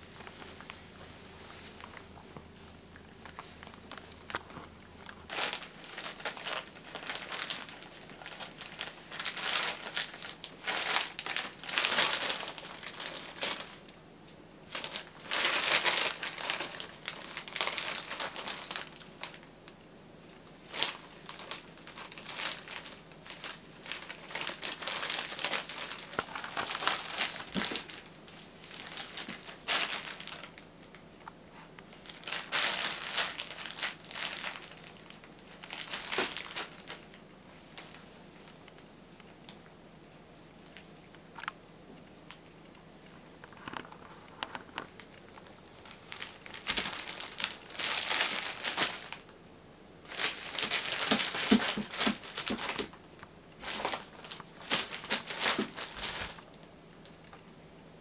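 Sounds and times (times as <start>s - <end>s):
plastic bag crinkling: 0.0s - 14.0s, 14.7s - 19.5s, 20.4s - 31.0s, 31.8s - 38.8s, 42.4s - 49.3s, 50.0s - 53.0s, 53.6s - 57.4s.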